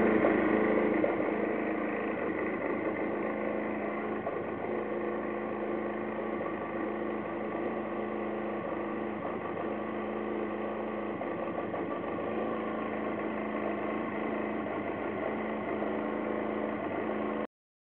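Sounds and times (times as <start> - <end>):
scooter engine idling: 0.0 - 17.5.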